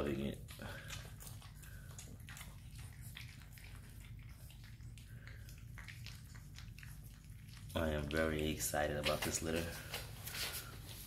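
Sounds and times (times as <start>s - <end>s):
low steady hum: 0.0s - 11.0s
puppies licking and chewing: 0.0s - 11.0s.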